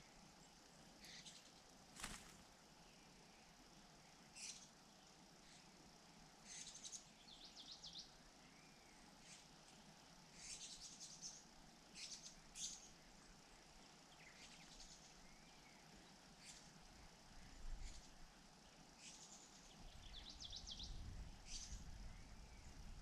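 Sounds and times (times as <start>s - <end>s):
faint bird chirps: 0.0s - 23.0s
quiet outdoor hiss: 0.0s - 23.0s.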